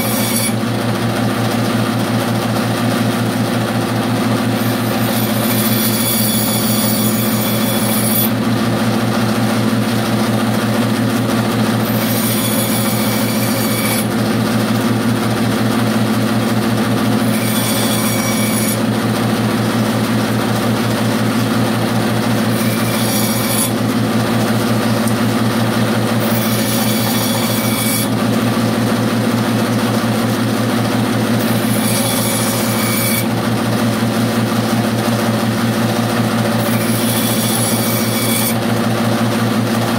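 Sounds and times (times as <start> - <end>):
bandsaw cutting wood: 0.0 - 39.9
bandsaw motor hum: 0.0 - 39.9.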